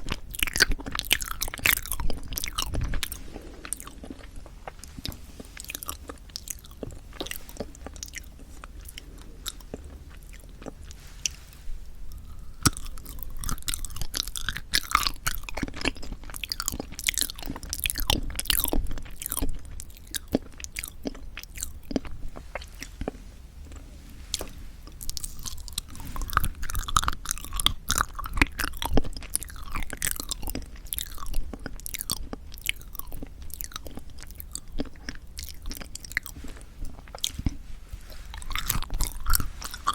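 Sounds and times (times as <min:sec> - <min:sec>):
close chewing and biting: 0:00.0 - 0:39.9.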